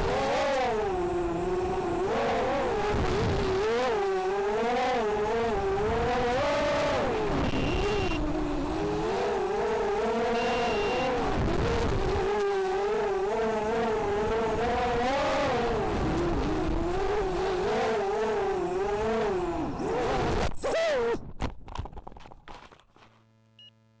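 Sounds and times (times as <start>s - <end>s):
drone motors whining: 0.0s - 20.8s.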